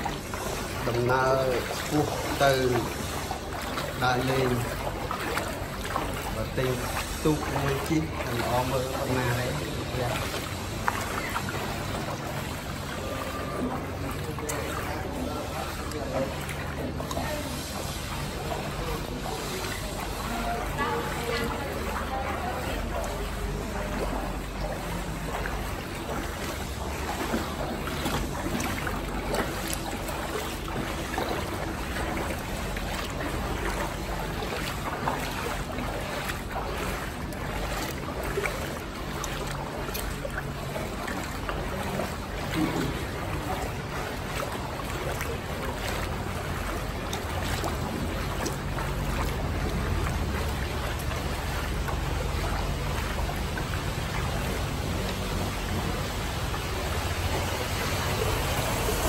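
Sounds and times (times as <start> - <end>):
feet wading through water: 0.0 - 59.0.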